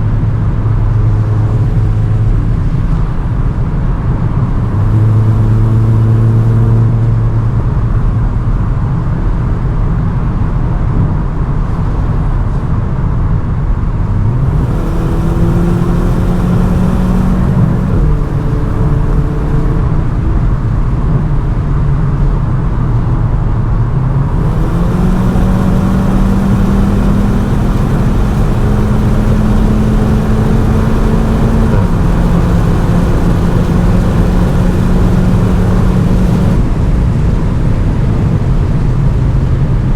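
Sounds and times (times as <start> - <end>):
car engine droning: 0.0 - 39.9
road and wind noise: 0.0 - 39.9.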